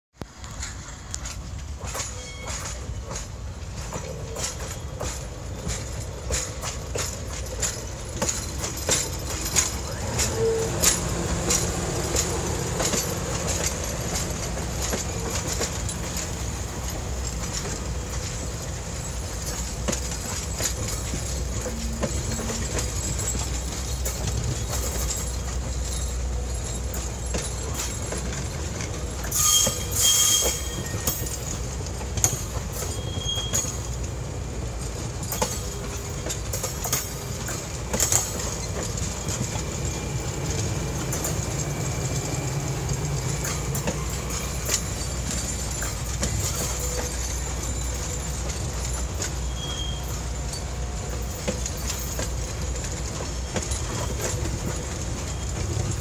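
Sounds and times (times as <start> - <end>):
train coaches rumbling on rails: 0.2 - 56.0
wheels clicking over rail joints: 0.2 - 56.0
high wheel squeal: 1.9 - 3.3, 7.0 - 31.8, 32.5 - 34.0, 38.0 - 56.0.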